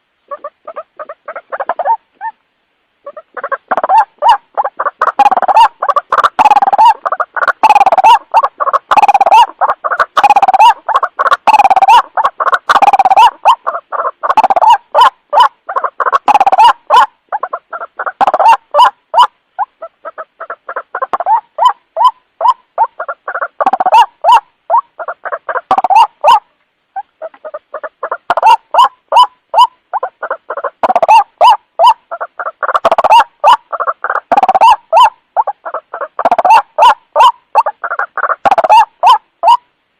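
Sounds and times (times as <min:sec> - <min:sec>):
waterhen croaking calls: 0:00.0 - 0:39.7.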